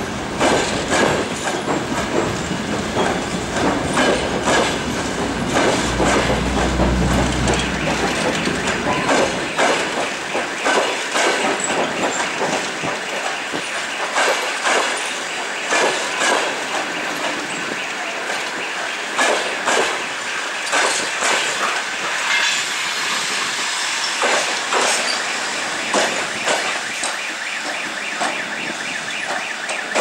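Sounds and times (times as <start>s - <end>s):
rumble and hiss of rolling stock: 0.0s - 26.9s
train wheels clattering on rails: 0.0s - 30.0s.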